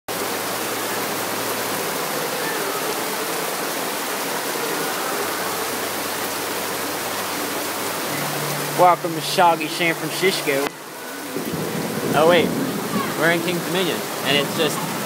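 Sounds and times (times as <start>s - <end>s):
torrential rain hissing: 0.1s - 15.0s.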